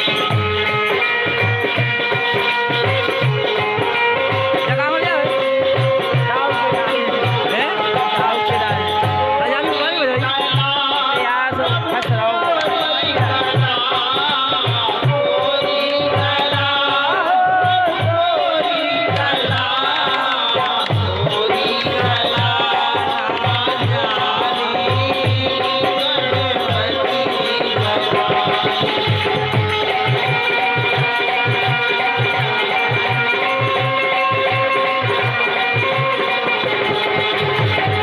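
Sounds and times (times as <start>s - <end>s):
hand drum beat: 0.0s - 38.0s.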